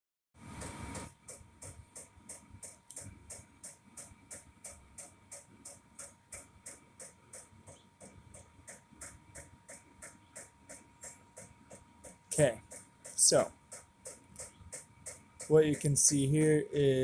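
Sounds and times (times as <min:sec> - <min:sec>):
fan whine and low rumble: 0:00.4 - 0:17.0
fuel pump ticking: 0:00.6 - 0:16.6.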